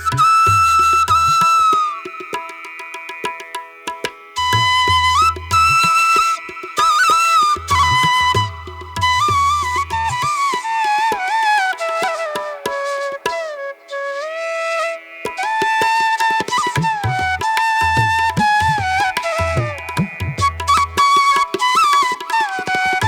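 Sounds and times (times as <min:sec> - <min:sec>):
flute-like melody: 0:00.0 - 0:03.5, 0:04.4 - 0:23.0
tabla-style drumming: 0:00.0 - 0:13.6, 0:15.1 - 0:23.0.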